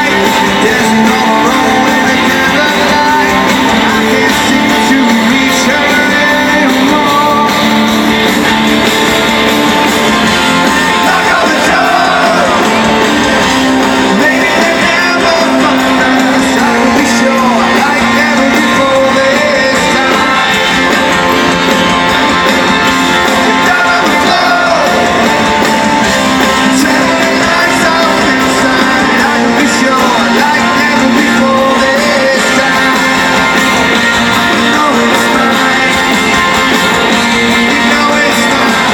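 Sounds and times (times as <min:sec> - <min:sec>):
lead vocal singing: 0:00.0 - 0:08.4, 0:09.1 - 0:38.9
live rock band playing: 0:00.0 - 0:38.9.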